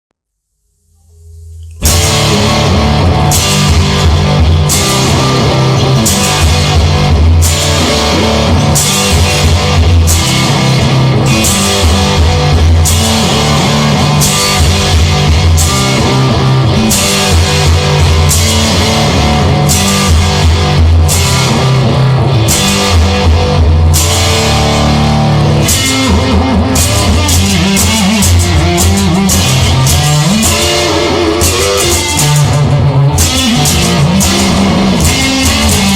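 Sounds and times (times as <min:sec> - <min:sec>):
rock music with guitar and drums: 0:01.8 - 0:35.9.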